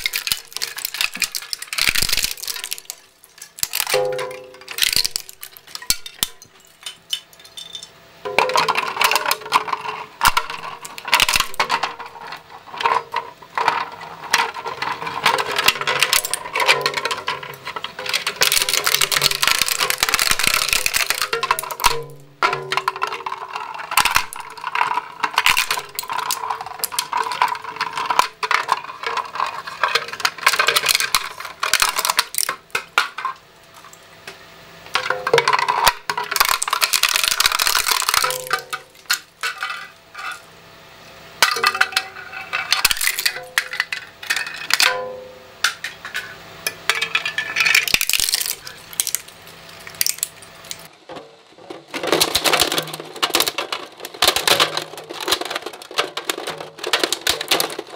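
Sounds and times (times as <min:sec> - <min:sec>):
shredder crunching plastic: 0:00.0 - 0:07.2, 0:08.4 - 0:34.0, 0:34.9 - 0:40.4, 0:41.4 - 0:44.9, 0:46.9 - 0:57.9
fragments clattering against metal: 0:00.0 - 0:34.0, 0:34.9 - 0:40.4, 0:41.4 - 0:57.9.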